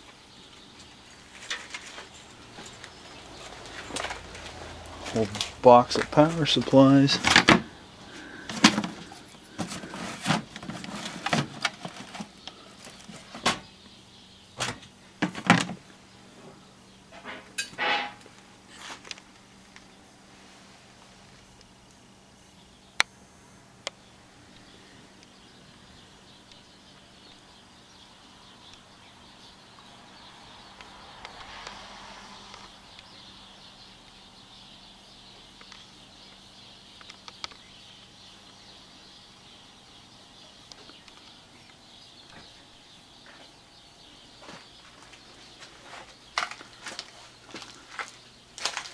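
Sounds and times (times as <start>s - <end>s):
steady high hiss: 0.0s - 10.5s, 15.8s - 46.5s
faint low hum: 0.0s - 48.9s.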